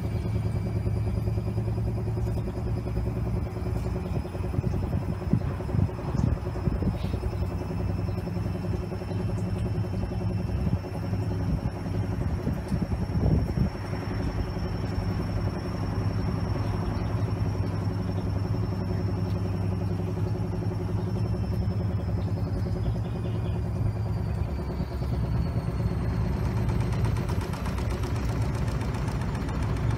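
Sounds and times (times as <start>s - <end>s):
washing machine drum rattling: 0.0s - 24.6s, 25.2s - 29.9s
washing machine motor hum: 0.0s - 29.9s.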